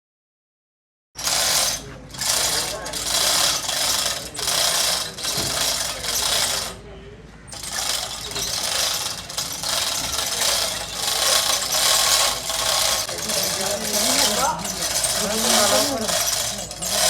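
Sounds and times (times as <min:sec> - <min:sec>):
rasping hand tool strokes: 0:01.2 - 0:06.8, 0:07.6 - 0:17.0.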